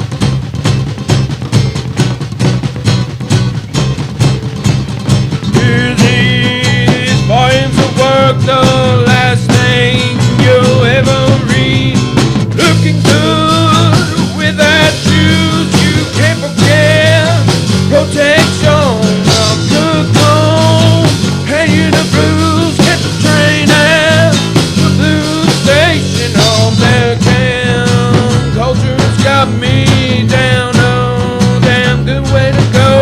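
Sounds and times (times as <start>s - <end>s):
rock song with singer: 0.0s - 33.0s.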